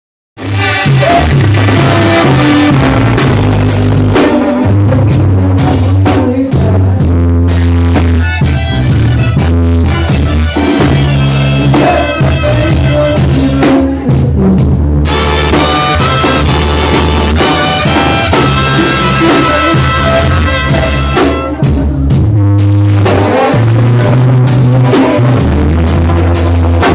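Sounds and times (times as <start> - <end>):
loud music with drums and bass: 0.4 - 26.9.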